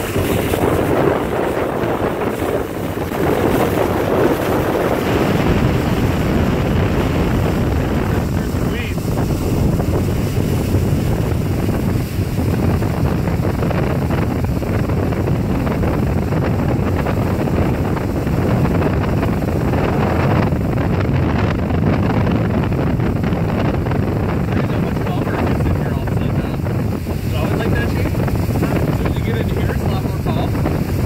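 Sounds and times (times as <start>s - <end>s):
boat engine running: 0.0s - 31.0s
rushing water: 0.0s - 31.0s
wind buffeting microphone: 0.0s - 31.0s.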